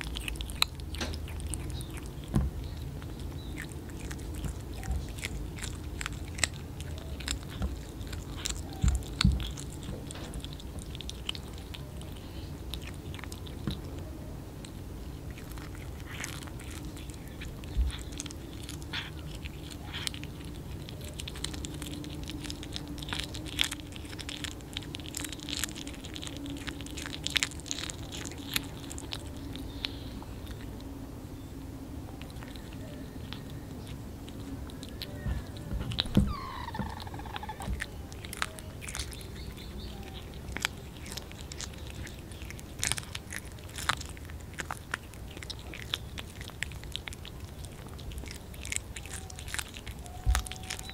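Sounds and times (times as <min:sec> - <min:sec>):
kittens chewing raw fish: 0:00.0 - 0:50.9.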